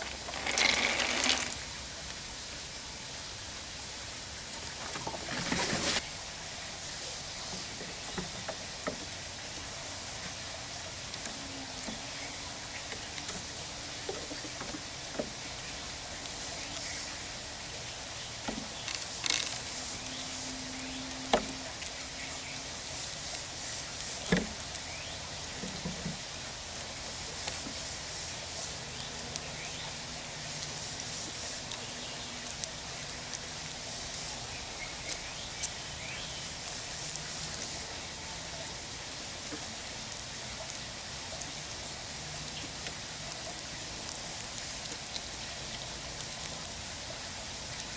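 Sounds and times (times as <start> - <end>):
squirrel cracking seeds: 0.0 - 1.6, 7.6 - 47.9
outdoor hiss: 0.0 - 47.9.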